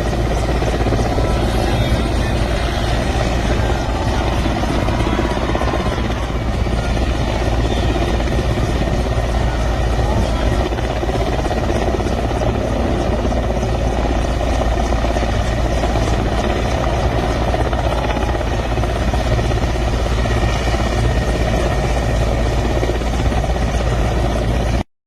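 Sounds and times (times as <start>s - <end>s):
jet aircraft roaring overhead: 0.0s - 24.6s.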